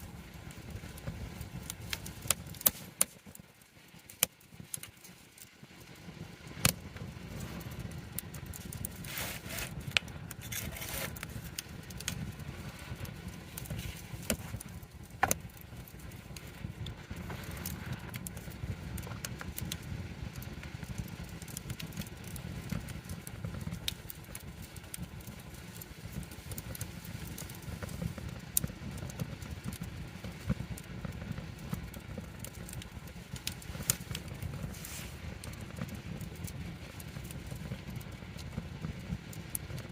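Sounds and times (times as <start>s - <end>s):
campfire flame rumble: 0.0s - 39.9s
wood crackling and popping: 0.0s - 39.9s.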